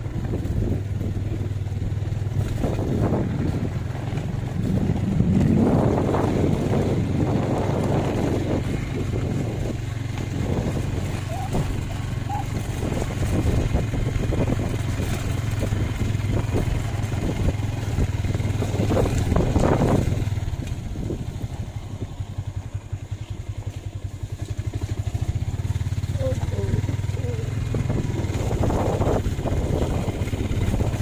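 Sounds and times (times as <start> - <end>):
engine running with clatter: 0.0 - 31.0.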